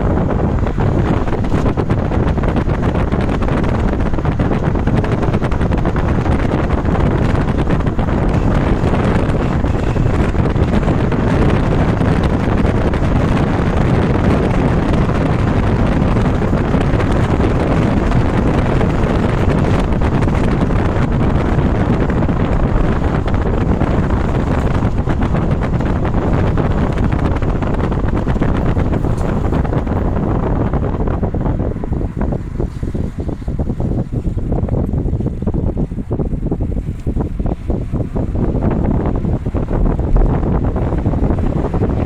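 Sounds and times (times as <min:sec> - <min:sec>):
car road and engine noise: 0:00.0 - 0:42.0
wind rumbling on microphone: 0:00.0 - 0:42.0.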